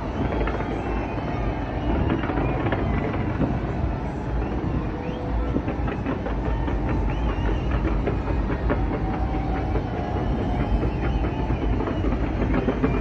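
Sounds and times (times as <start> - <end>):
distant fireworks rumble: 0.0 - 13.0
fireworks popping and crackling: 0.0 - 13.0.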